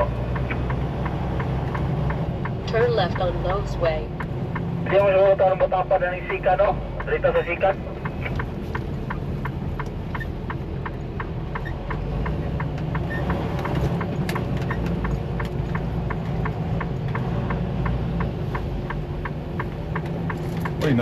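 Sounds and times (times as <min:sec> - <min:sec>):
truck engine drone: 0:00.0 - 0:21.0
turn signal clicking: 0:00.0 - 0:21.0.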